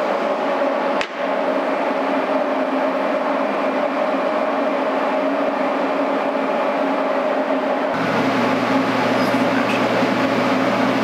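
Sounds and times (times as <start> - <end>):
shop machinery running: 0.0 - 11.0.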